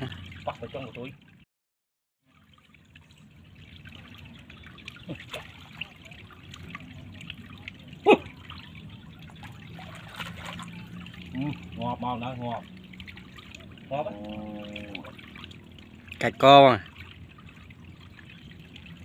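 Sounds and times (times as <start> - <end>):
water trickling: 0.0 - 1.5, 2.2 - 19.0
small splashes and knocks: 2.2 - 19.0.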